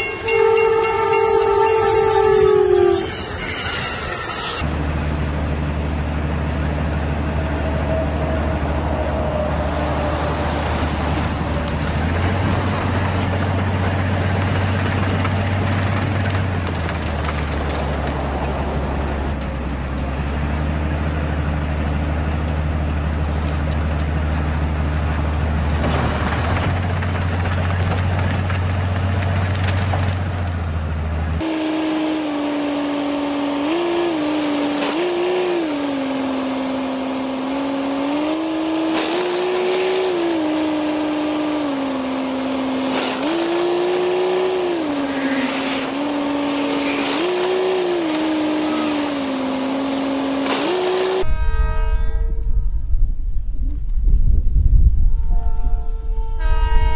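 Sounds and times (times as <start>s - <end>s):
snow blower engine drone: 4.6s - 51.4s.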